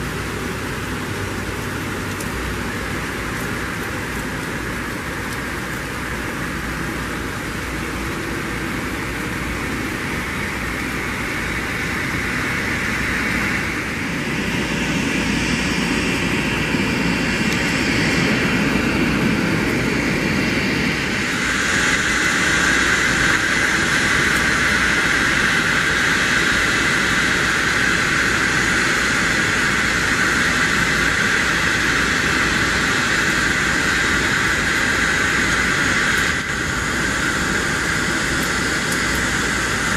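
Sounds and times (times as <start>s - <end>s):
jet engines rushing: 0.0s - 39.9s
steady high whine: 0.0s - 39.9s.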